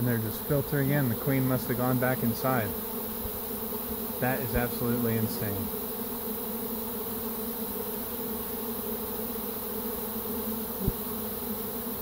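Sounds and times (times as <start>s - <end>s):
bee swarm buzzing: 0.0s - 12.0s.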